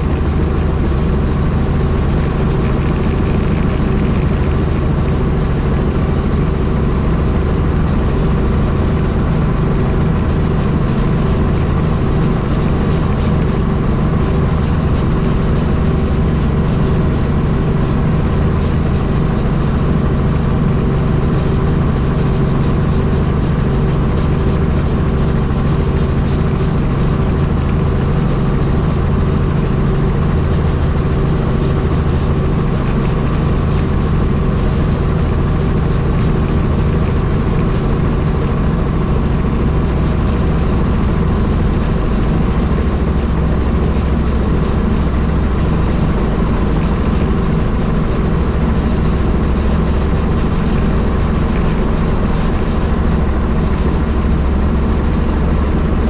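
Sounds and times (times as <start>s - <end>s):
helicopter turbine and rotor drone: 0.0s - 56.0s.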